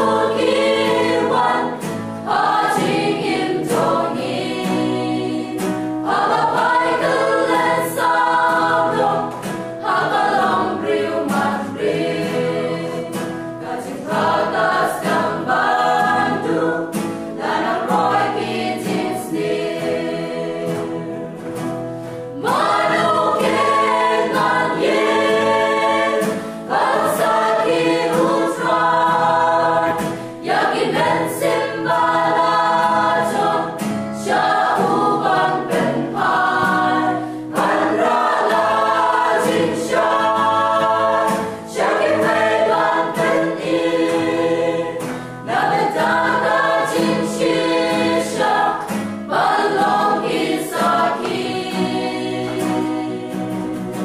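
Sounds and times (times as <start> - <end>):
mixed choir singing: 0.0 - 21.7, 22.3 - 54.0.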